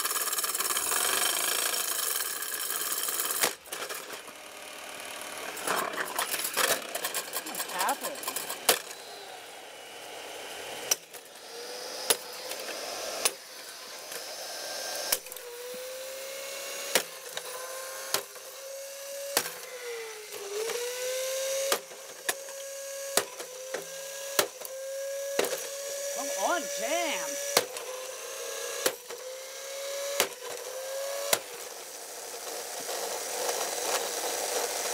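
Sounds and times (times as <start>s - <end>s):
mixer motor whining: 3.8s - 32.2s.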